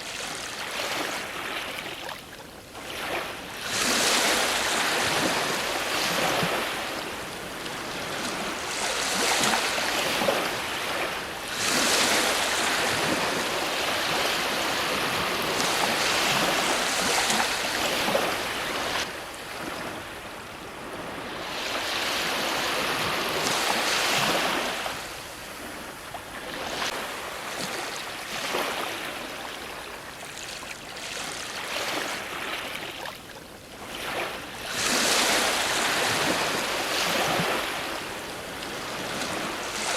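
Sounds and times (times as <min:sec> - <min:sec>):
ocean waves breaking: 0:02.8 - 0:39.9.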